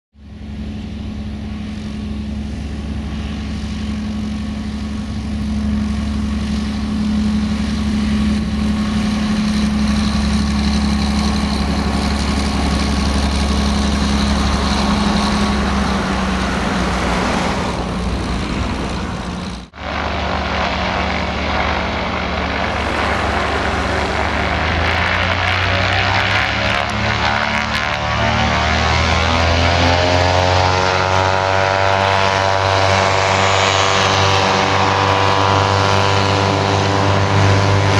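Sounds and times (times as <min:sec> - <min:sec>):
airplane engine and propeller drone: 0:00.1 - 0:37.9.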